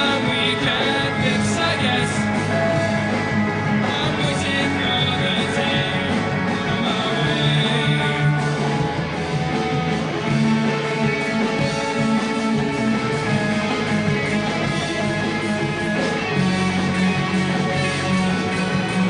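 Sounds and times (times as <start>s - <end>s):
band music with strummed guitars: 0.0s - 19.0s.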